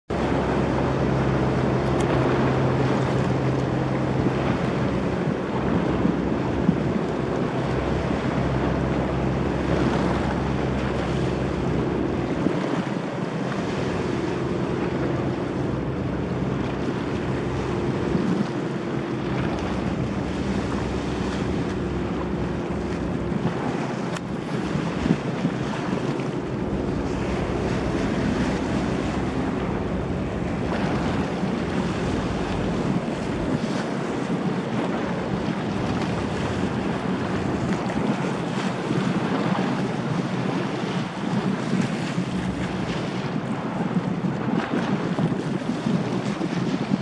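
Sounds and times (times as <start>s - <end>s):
ferry engine drone: 0.0s - 47.0s
waves washing: 0.1s - 47.0s
wind buffeting microphone: 0.1s - 47.0s.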